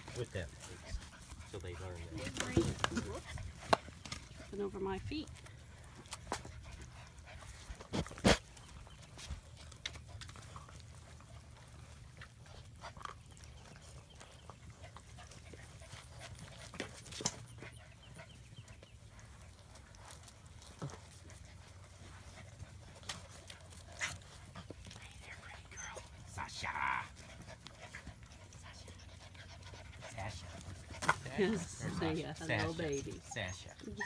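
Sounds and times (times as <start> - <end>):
puppies chewing at a bowl: 0.0 - 34.0.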